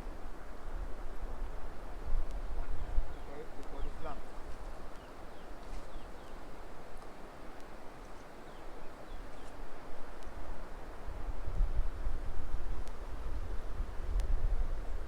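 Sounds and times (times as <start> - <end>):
wind buffeting microphone: 0.0 - 6.7, 9.1 - 15.0.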